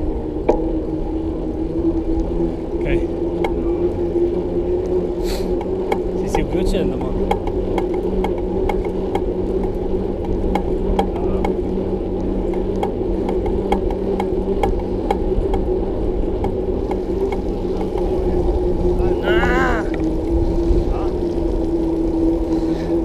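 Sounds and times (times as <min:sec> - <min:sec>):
bicycle tyres rolling hum: 0:00.0 - 0:23.0
bicycle freewheel clicking: 0:00.1 - 0:23.0.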